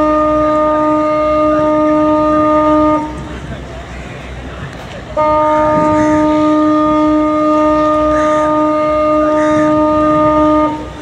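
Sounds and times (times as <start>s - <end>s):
ship's horn blast: 0.0s - 4.3s, 5.1s - 11.0s.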